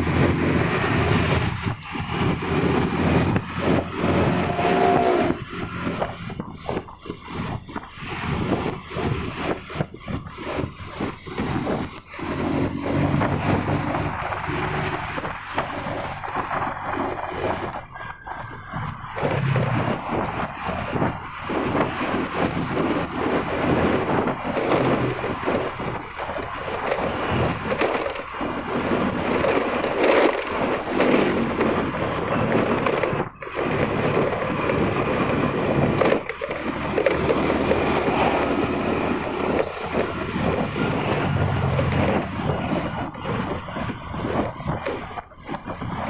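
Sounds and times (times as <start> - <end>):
vehicle road noise: 0.0 - 46.0
wind buffeting microphone: 0.0 - 46.0.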